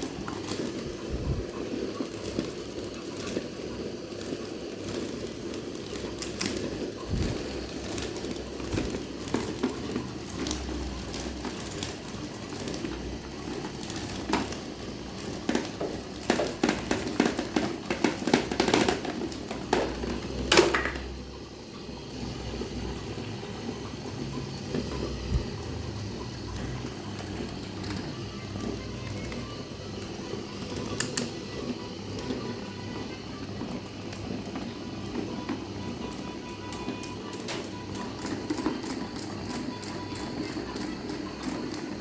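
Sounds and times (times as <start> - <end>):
electric fan humming: 0.0 - 42.0.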